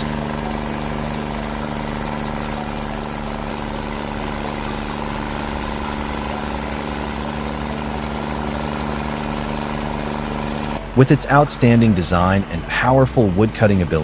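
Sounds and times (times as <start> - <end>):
stump grinder running: 0.0 - 14.0.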